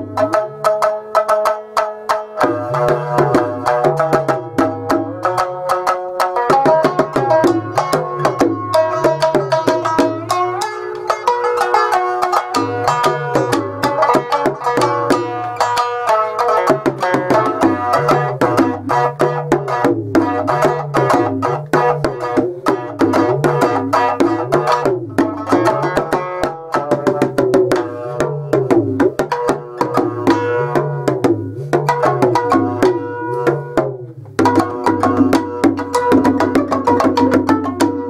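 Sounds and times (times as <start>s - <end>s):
plucked shamisen notes: 0.0s - 38.0s
talking drum strokes: 2.4s - 38.0s.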